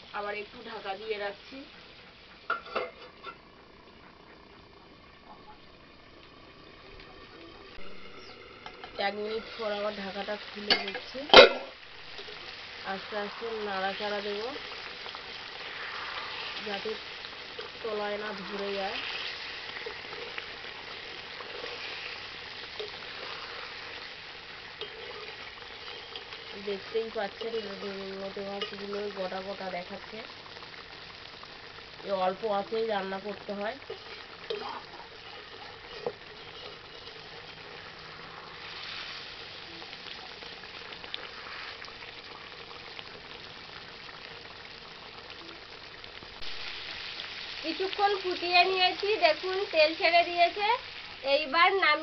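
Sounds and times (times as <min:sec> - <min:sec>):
curry simmering and bubbling: 0:00.6 - 0:51.8.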